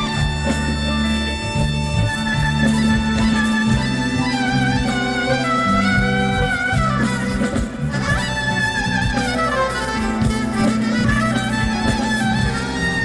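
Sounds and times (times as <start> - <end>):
gliding synth melody: 0.0 - 13.0
low bass notes: 0.0 - 13.0
regular beat: 0.0 - 13.0.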